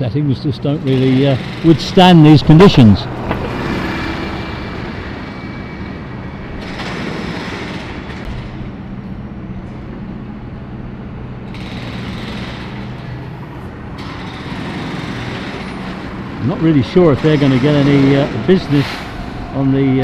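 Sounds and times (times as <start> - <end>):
city road traffic: 0.0 - 20.0
vehicle engine humming close by: 0.0 - 20.0.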